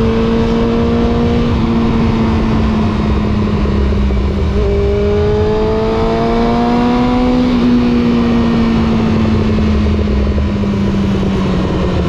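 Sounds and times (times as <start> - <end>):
motorcycle engine and exhaust running: 0.0 - 12.0.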